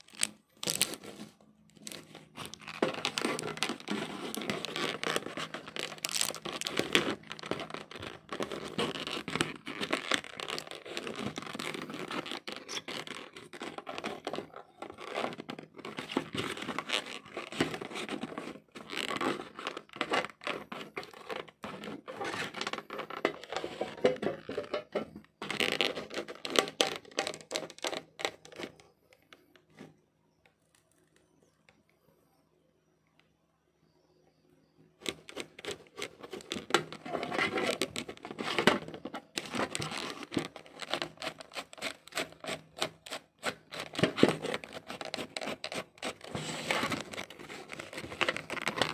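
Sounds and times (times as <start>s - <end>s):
scratching and crinkling handling noise: 0.0s - 32.1s, 35.0s - 48.9s.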